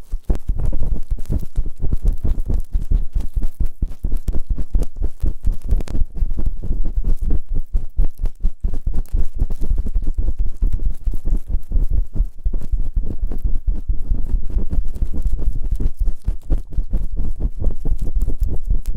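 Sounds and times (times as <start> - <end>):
rubbing and scratching on microphone: 0.0 - 18.9.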